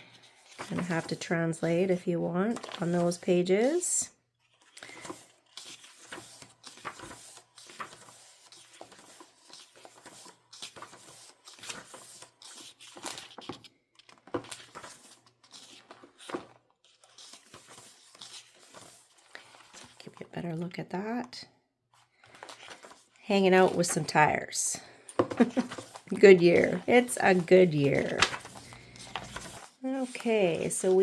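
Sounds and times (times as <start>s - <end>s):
paper pages rustling: 0.0s - 1.3s, 1.9s - 3.8s, 4.4s - 20.3s, 21.9s - 24.2s, 25.2s - 31.0s.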